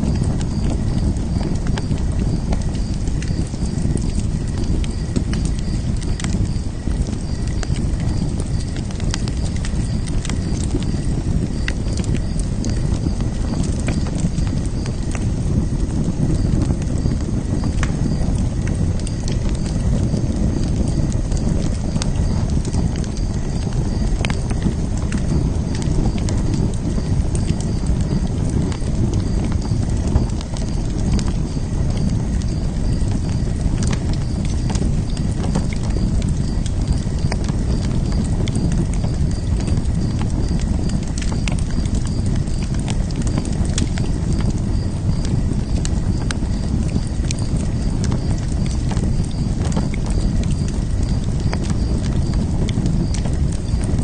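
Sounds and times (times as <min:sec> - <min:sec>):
fire rumbling: 0:00.0 - 0:54.0
wood crackling and popping: 0:00.0 - 0:54.0.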